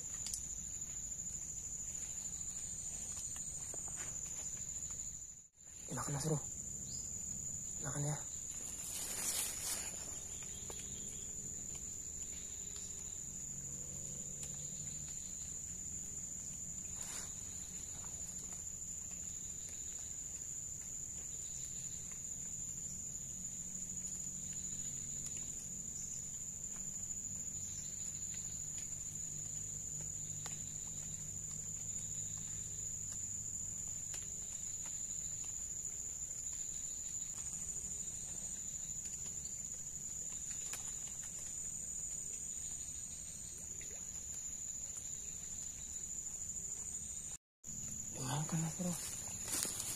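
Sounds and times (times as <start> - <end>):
insects droning: 0.0 - 49.9.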